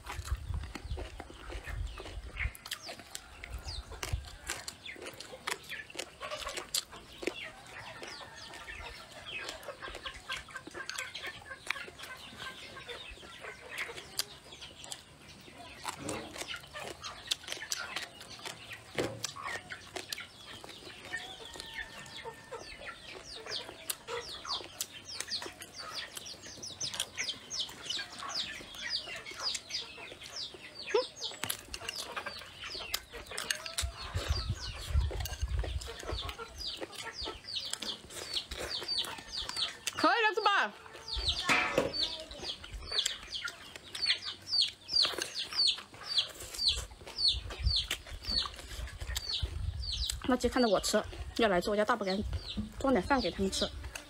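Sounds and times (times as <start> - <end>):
chewing and lip-smacking: 0.0 - 40.1, 42.0 - 51.4, 53.7 - 54.0
chickens clucking: 0.0 - 54.0.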